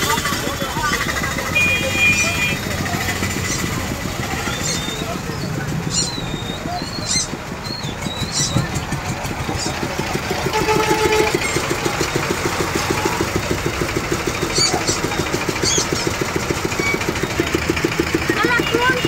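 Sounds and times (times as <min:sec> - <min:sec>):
crowd murmur: 0:00.0 - 0:19.0
small engine idling: 0:00.0 - 0:19.0.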